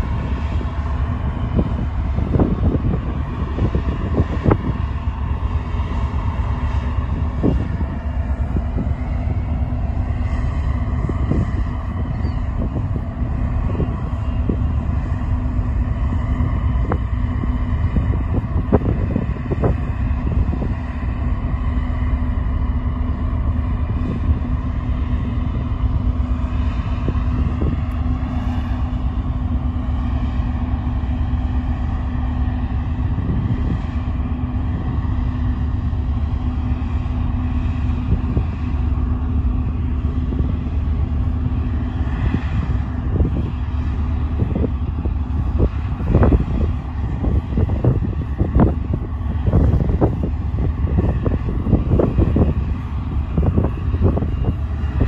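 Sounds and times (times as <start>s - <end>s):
ship engines droning: 0.0s - 55.0s
wind buffeting microphone: 0.0s - 55.0s.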